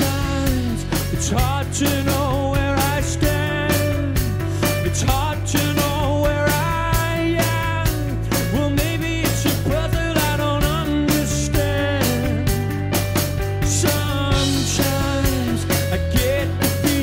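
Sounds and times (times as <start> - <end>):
bass tones: 0.0 - 17.0
male lead vocal: 0.0 - 17.0
steady drum beat: 0.0 - 17.0.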